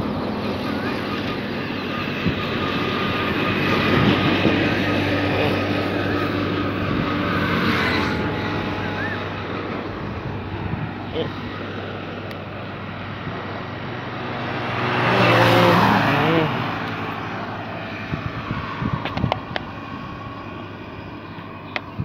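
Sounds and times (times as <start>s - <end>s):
steady road noise: 0.0s - 22.0s
vehicles passing: 0.0s - 22.0s.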